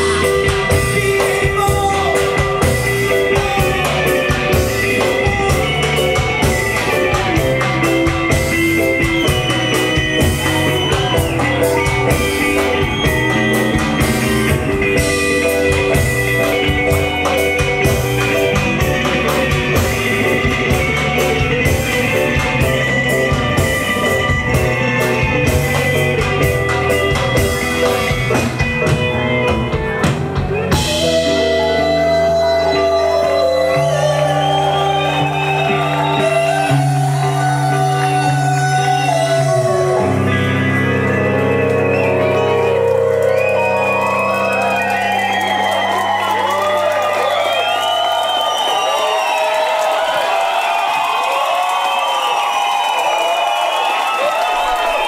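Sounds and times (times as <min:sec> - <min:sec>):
keyboard and guitar chords: 0:00.0 - 0:50.2
live band playing: 0:00.0 - 0:55.0.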